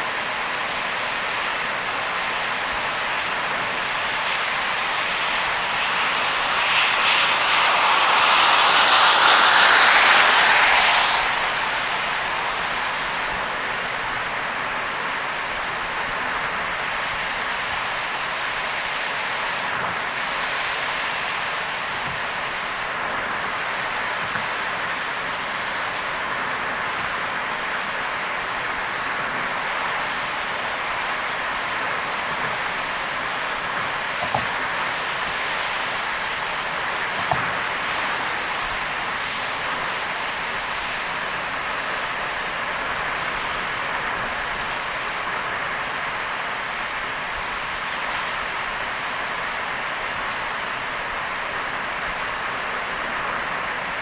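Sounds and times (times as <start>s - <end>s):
rain and tyres on wet road: 0.0s - 54.0s.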